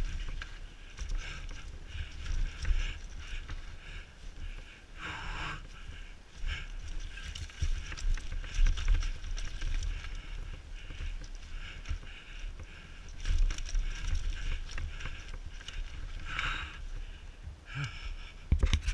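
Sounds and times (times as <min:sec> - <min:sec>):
mountain bike rattling on dirt: 0:00.0 - 0:17.4, 0:18.2 - 0:18.9
wind buffeting camera: 0:00.0 - 0:18.9.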